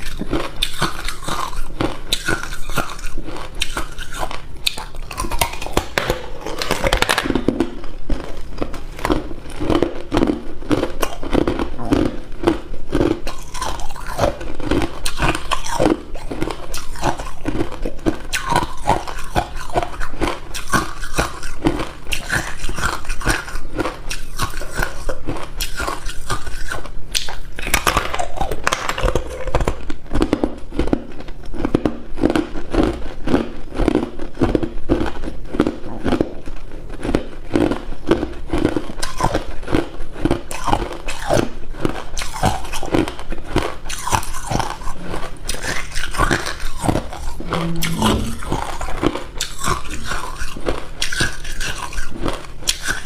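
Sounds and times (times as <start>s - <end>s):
ice cubes being chewed: 0.0s - 53.0s.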